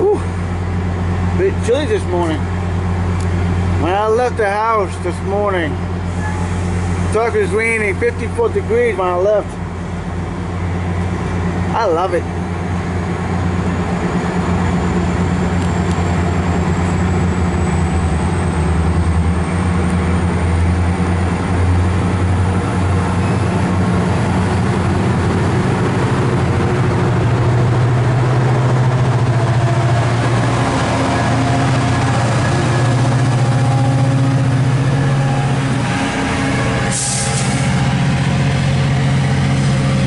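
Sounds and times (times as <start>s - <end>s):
diesel locomotive drone: 0.0s - 40.0s.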